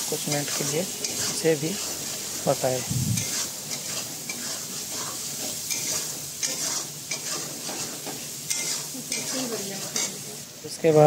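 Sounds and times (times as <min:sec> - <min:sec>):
paste sizzling in oil: 0:00.0 - 0:11.0
metal spatula scraping pan: 0:00.2 - 0:10.3.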